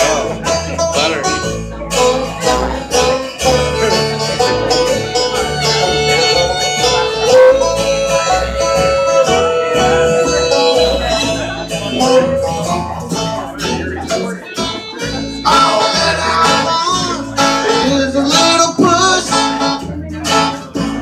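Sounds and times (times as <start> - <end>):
lead melody sliding notes: 0.0 - 20.6
bass line: 0.0 - 21.0
live band playing instrumental: 0.0 - 21.0.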